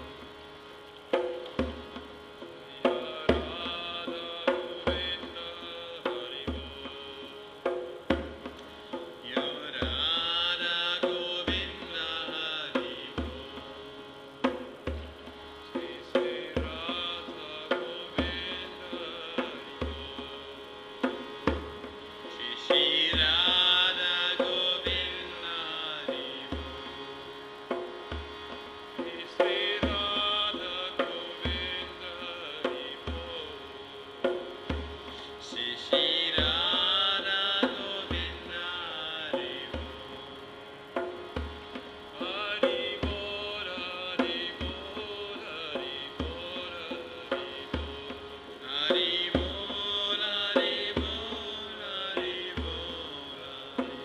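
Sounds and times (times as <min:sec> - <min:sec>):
harmonium chords: 0:00.0 - 0:54.0
people singing: 0:02.7 - 0:07.9, 0:09.2 - 0:14.6, 0:15.6 - 0:21.5, 0:22.2 - 0:27.1, 0:29.0 - 0:33.7, 0:35.2 - 0:40.5, 0:42.2 - 0:54.0.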